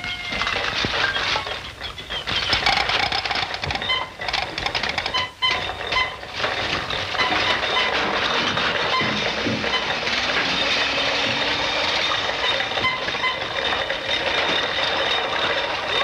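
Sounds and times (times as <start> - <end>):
mechanical clatter and hiss: 0.0 - 16.0.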